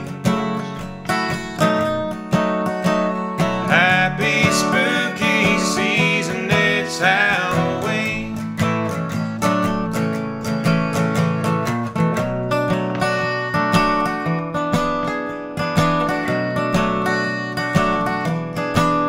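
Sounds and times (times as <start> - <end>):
acoustic guitar strumming chords: 0.0 - 19.0
guitar melody line: 0.0 - 19.0.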